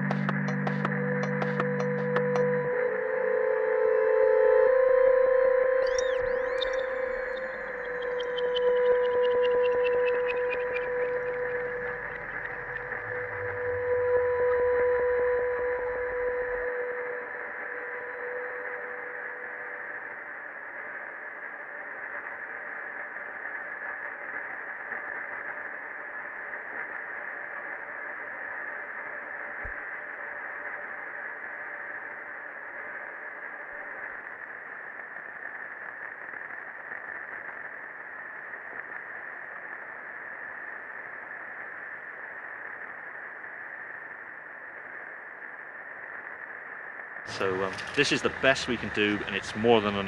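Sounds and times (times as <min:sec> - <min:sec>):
static hiss: 0:00.0 - 0:50.0.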